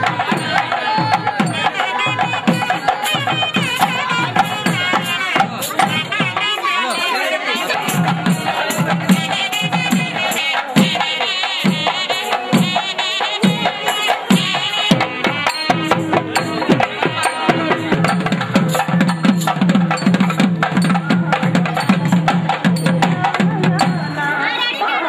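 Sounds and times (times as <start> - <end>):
folk drumming: 0.0 - 25.0.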